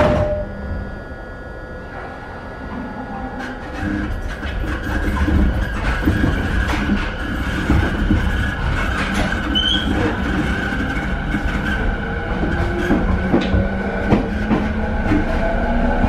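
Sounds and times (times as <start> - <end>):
wheels rumbling on rails: 2.6 - 16.0.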